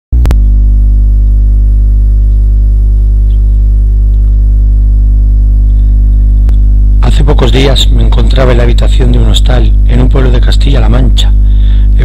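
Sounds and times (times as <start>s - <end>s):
low electrical hum: 0.1s - 12.0s.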